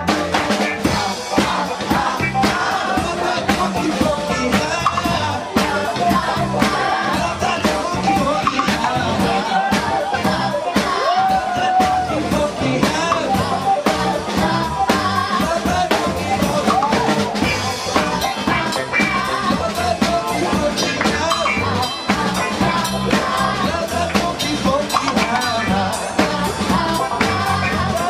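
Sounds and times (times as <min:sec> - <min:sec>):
drum kit beat: 0:00.0 - 0:28.0
electric bass: 0:00.0 - 0:28.0
electric guitar: 0:00.0 - 0:28.0
keyboard: 0:00.0 - 0:28.0
people singing: 0:00.0 - 0:28.0.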